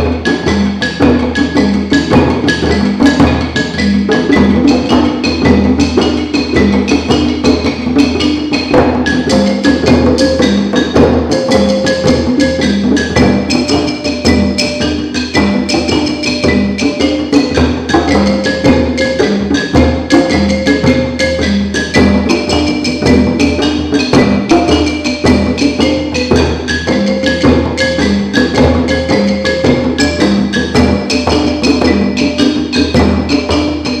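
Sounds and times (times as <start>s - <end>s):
wooden xylophone notes: 0.0s - 34.0s.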